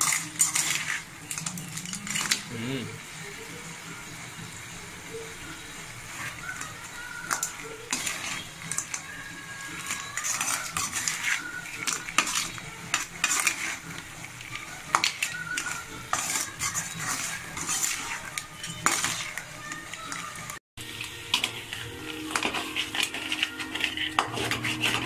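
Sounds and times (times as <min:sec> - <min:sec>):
metal spatula scraping a pan: 0:00.0 - 0:02.5, 0:05.1 - 0:25.0
light frying sizzle: 0:00.0 - 0:25.0.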